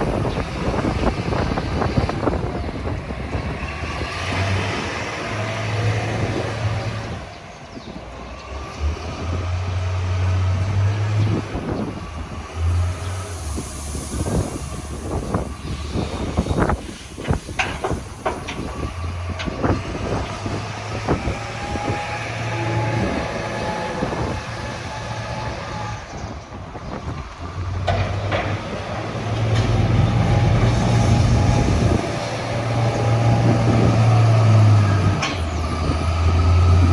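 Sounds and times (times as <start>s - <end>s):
strong wind buffeting microphone: 0.0s - 36.9s.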